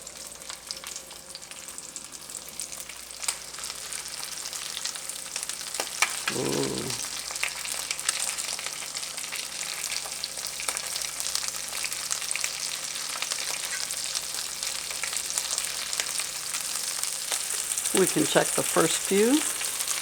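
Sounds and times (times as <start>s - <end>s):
food frying with crackling sizzle: 0.0s - 20.0s.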